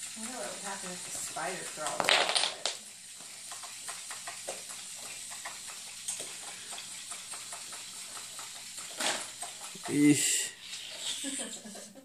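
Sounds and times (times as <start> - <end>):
steady hiss: 0.0 - 12.0
wooden blocks tapping and clicking: 0.3 - 10.1.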